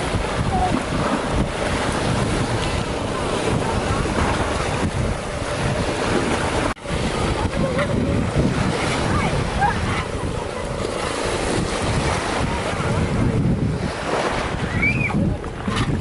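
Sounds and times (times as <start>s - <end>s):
sea wash: 0.0s - 16.0s
wind buffeting microphone: 0.0s - 16.0s.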